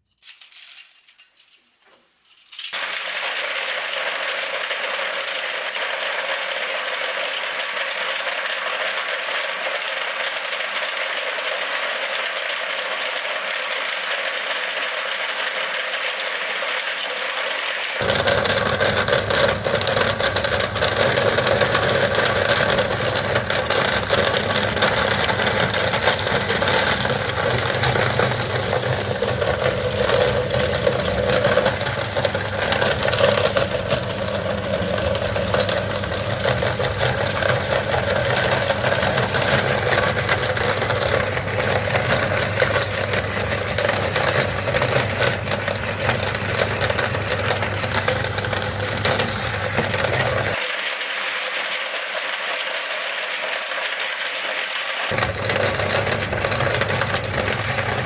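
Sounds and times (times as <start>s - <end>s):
meat grinder motor running: 2.8s - 50.8s, 51.8s - 58.0s.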